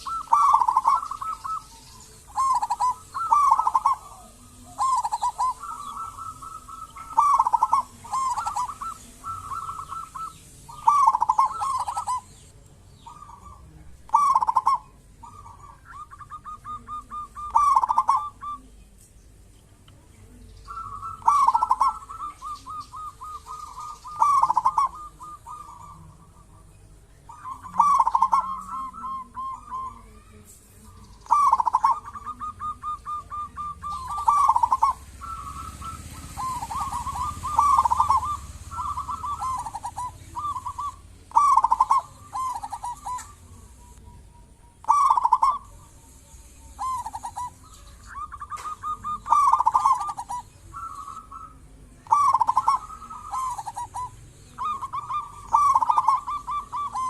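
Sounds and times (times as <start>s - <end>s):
dove cooing: 0.0s - 19.0s, 20.1s - 57.0s.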